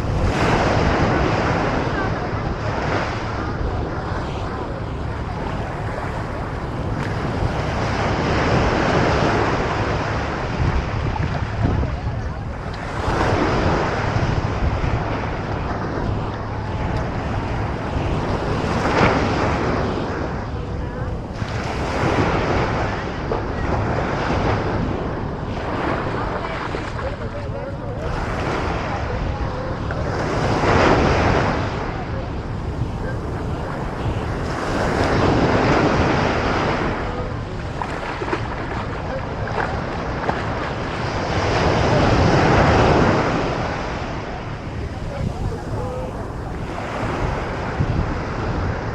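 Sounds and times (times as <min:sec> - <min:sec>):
ocean surf: 0:00.0 - 0:48.9
wind buffeting microphone: 0:00.0 - 0:48.9.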